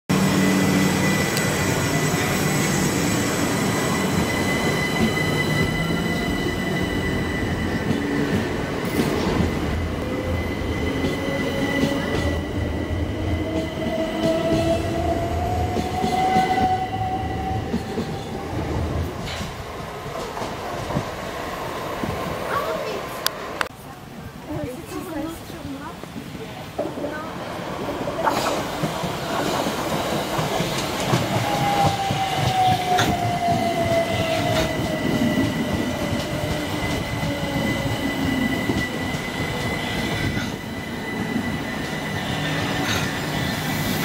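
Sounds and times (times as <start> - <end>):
train wheels on rails: 0.1 - 23.8, 24.5 - 44.0.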